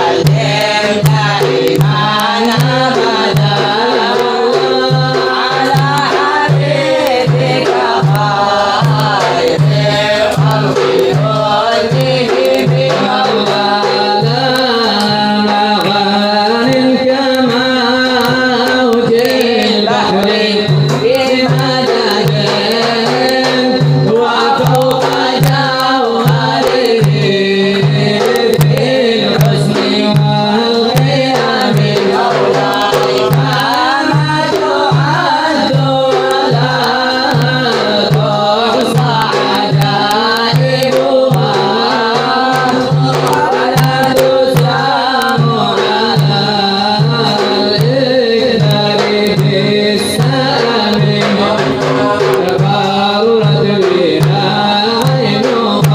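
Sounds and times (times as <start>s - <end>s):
low drum beat: 0.0s - 55.9s
man chanting melismatically: 0.0s - 55.9s.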